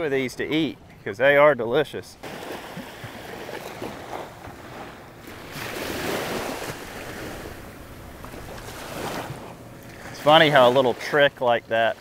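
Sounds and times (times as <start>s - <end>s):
small waves breaking on sand: 2.2s - 12.0s.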